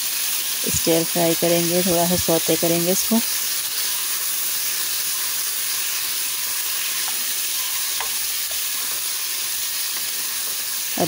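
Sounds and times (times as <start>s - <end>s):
potatoes sizzling in hot oil: 0.0s - 11.0s.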